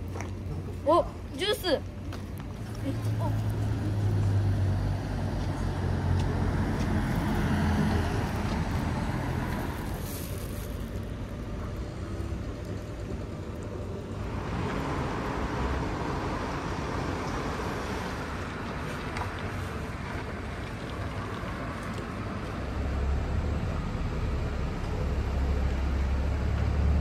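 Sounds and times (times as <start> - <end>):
engine rumble: 0.0 - 27.0.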